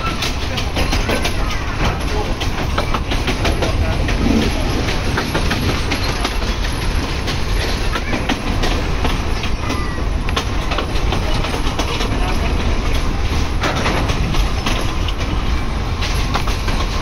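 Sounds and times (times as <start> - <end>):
train carriage rumble: 0.0 - 17.0.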